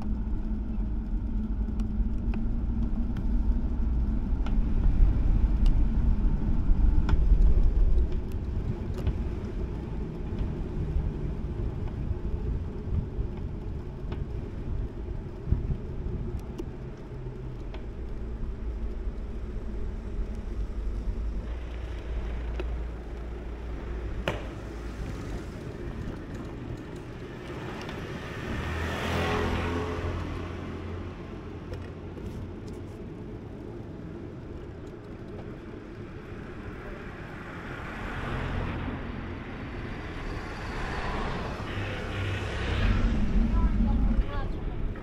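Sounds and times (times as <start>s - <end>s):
road noise rumble: 0.0s - 45.0s
vehicles passing: 0.0s - 45.0s.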